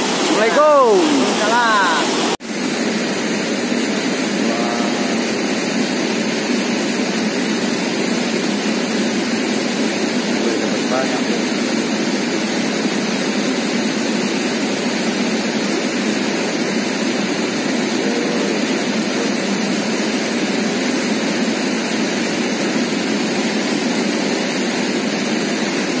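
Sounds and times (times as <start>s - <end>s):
river water rushing over rocks: 0.0s - 26.0s.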